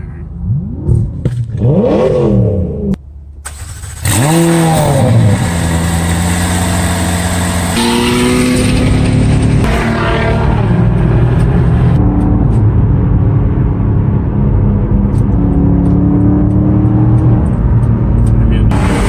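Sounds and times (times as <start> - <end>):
sports car engines revving: 0.0 - 3.0, 3.9 - 19.0.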